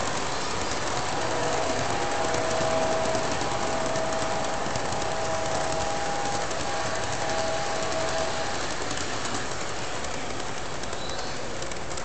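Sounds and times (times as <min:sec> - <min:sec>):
model train rattling on track: 0:00.0 - 0:12.0.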